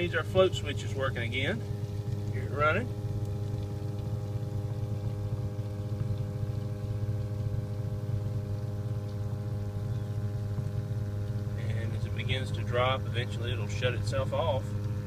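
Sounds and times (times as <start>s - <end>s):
sump pump motor humming: 0.0s - 15.0s.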